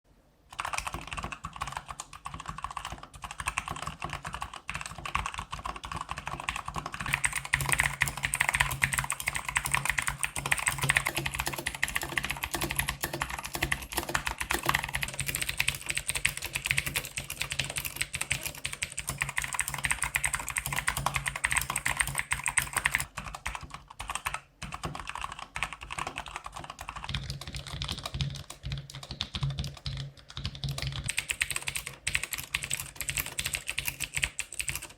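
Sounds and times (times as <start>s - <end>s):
fast mechanical keyboard typing: 0.5s - 34.9s.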